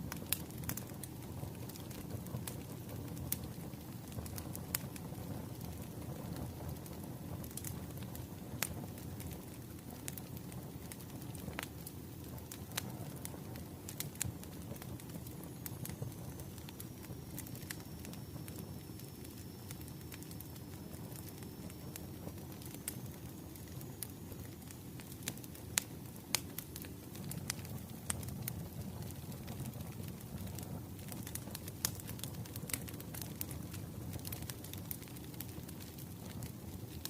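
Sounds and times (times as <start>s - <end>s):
pops and snaps of fire: 0.0s - 37.0s
wood fire crackling: 0.0s - 37.0s.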